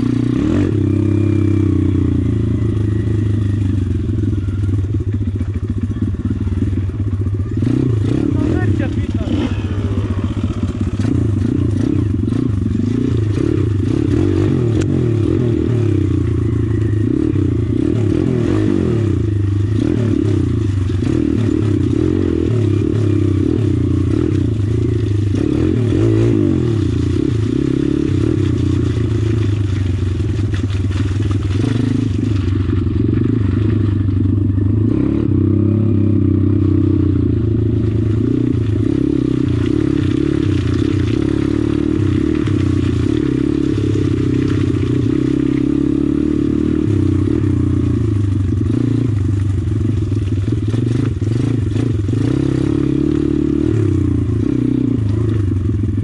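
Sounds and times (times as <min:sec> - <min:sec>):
pit bike engine running: 0:00.0 - 0:56.0.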